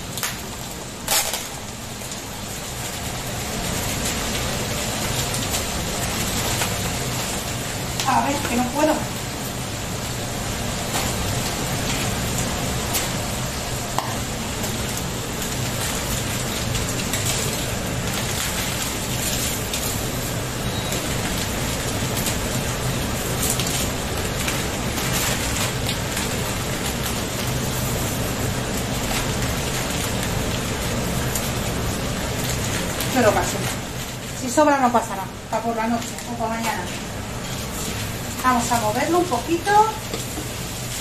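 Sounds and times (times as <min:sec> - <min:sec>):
extractor hood fan hum: 0:00.0 - 0:41.0
food sizzling in a pan: 0:00.0 - 0:41.0.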